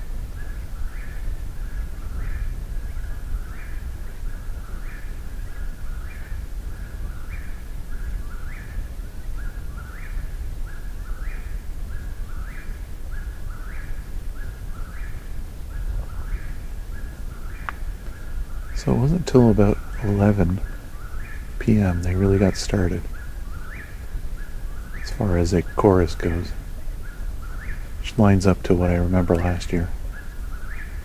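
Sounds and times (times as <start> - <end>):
low background rumble: 0.0 - 31.0.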